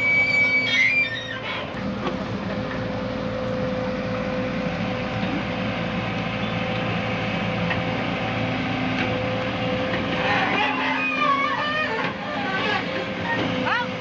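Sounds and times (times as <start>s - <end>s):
constant high whine: 0.0s - 14.0s
excavator diesel engine running: 0.0s - 14.0s.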